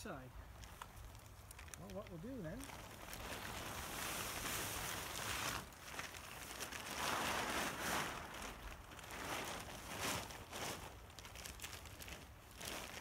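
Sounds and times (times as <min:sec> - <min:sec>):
plastic tarp rustling: 0:00.4 - 0:13.0.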